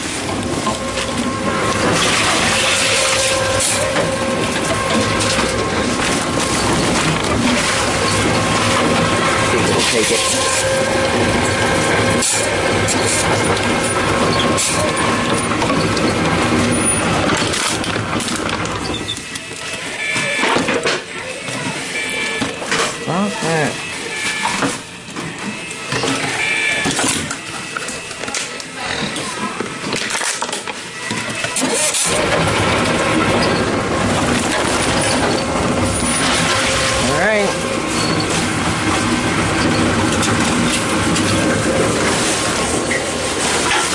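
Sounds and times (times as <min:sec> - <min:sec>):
vending machine motor running: 0:00.0 - 0:43.9.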